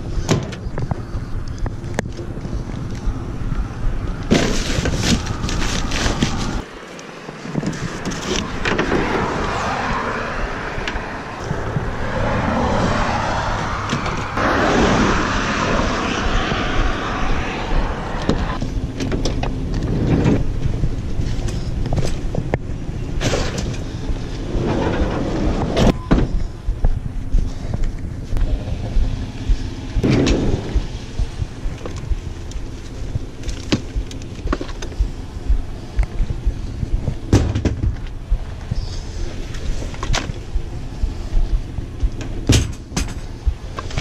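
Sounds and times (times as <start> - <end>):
car engine: 0.0 - 44.0
road noise: 0.0 - 44.0.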